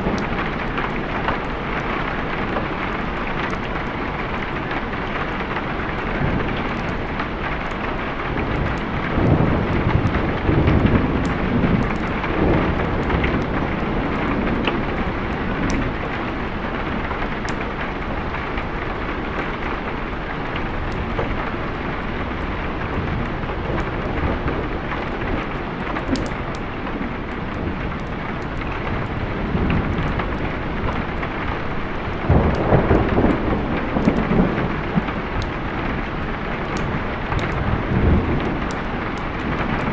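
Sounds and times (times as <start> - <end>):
heavy rain: 0.0 - 39.9
rolling thunder: 5.2 - 39.9.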